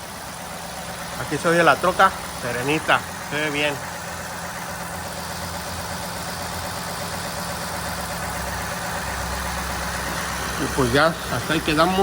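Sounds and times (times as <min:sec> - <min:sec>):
engine idling smoothly: 0:00.0 - 0:12.0.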